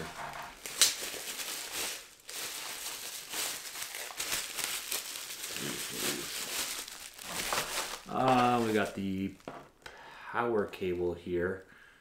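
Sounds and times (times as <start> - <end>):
plastic and bubble wrap crinkling: 0.0 - 9.9.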